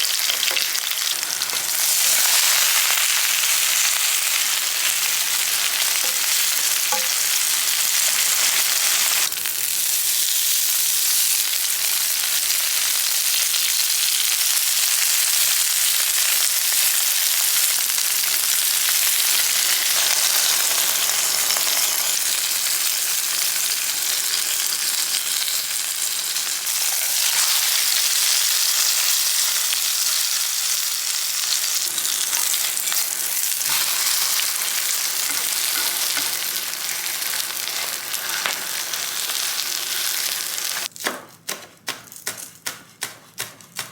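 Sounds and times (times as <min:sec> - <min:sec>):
food sizzling in a hot pan: 0:00.0 - 0:40.9.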